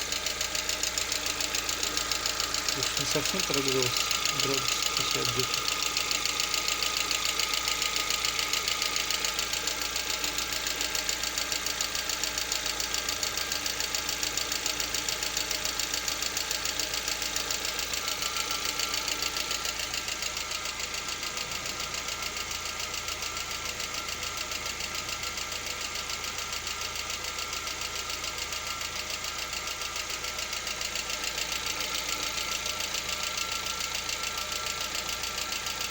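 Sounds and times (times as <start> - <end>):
car engine running with knock: 0.0 - 35.9.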